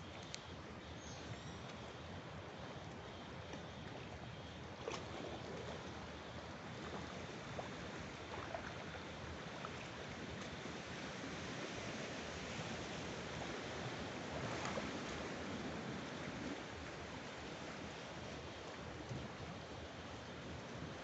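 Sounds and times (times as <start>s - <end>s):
water lapping: 0.0s - 21.0s.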